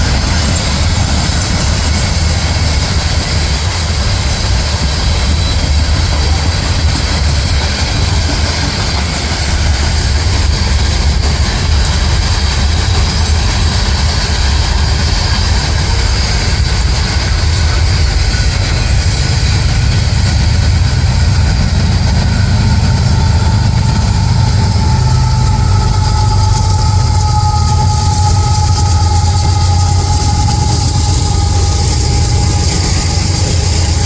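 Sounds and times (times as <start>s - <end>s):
low diesel rumble: 0.0s - 34.0s
thin whining tone: 0.0s - 34.0s.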